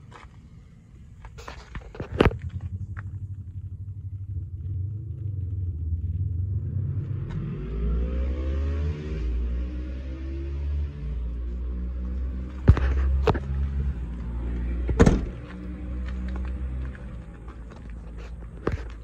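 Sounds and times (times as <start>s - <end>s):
truck engine running: 0.4s - 7.7s, 11.1s - 19.0s.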